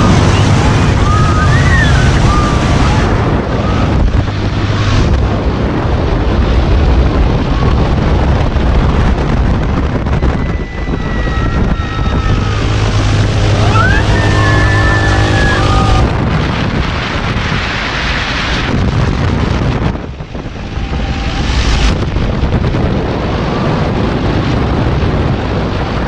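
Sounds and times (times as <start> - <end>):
low ride hum: 0.0 - 26.0
wind buffeting microphone: 0.0 - 26.0.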